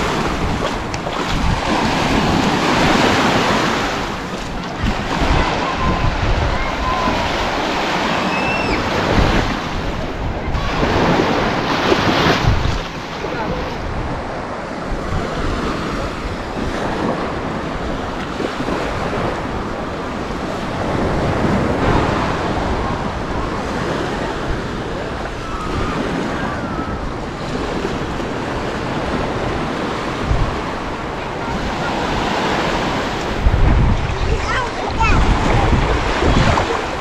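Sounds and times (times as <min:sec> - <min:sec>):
sea waves washing ashore: 0:00.0 - 0:37.0
wind buffeting microphone: 0:00.0 - 0:37.0.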